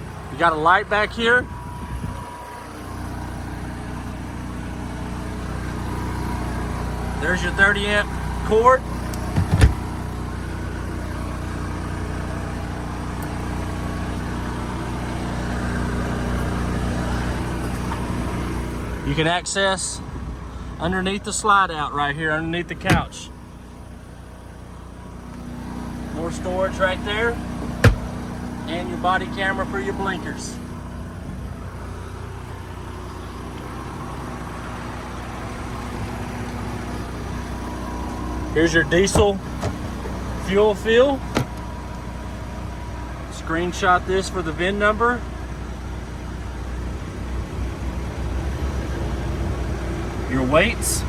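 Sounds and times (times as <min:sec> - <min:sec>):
diesel engine idling: 0:00.0 - 0:51.0
generator running: 0:00.0 - 0:51.0.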